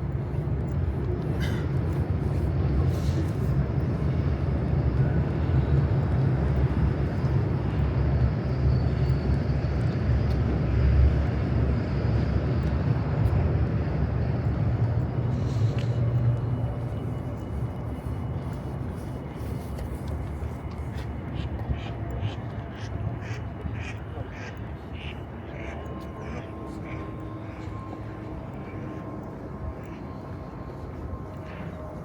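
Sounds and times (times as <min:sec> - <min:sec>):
faint hum: 0:00.0 - 0:32.0
low rumble of city traffic: 0:00.0 - 0:32.0.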